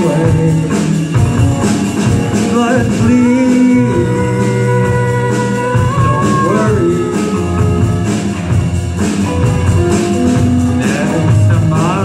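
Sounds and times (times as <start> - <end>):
singer's voice: 0.0 - 8.5, 9.8 - 12.0
live rock band playing: 0.0 - 12.0.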